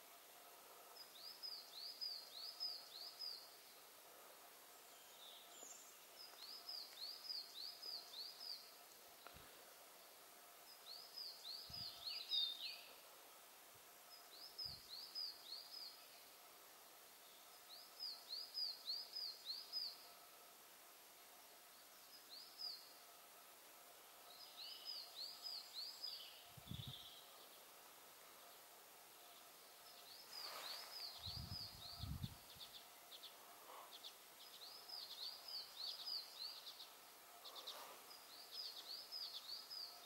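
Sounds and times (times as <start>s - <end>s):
songbird singing: 0.8s - 13.1s, 13.9s - 20.5s, 21.1s - 23.3s, 24.1s - 40.0s.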